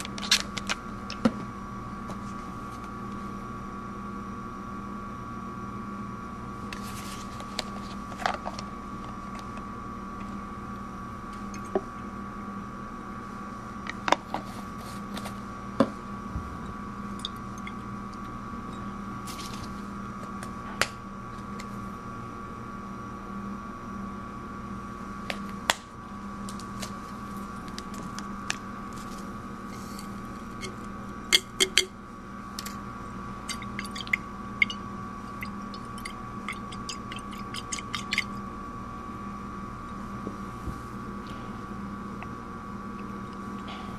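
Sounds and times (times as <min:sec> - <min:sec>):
room hum: 0:00.0 - 0:43.9.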